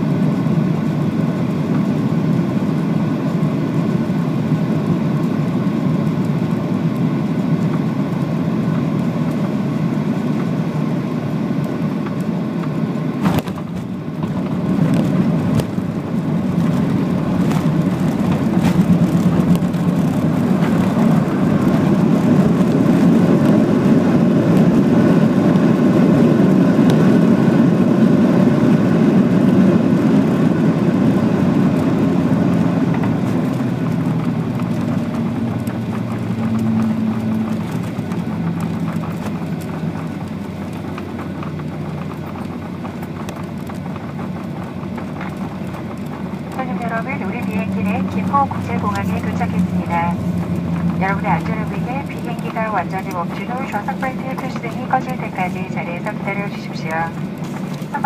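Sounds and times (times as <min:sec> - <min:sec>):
loud low roar of jet engines: 0:00.0 - 0:58.0.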